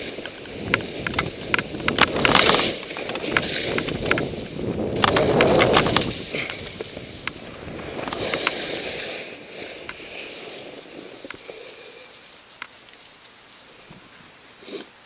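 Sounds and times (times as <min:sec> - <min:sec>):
skis swishing through snow: 0:00.0 - 0:12.3.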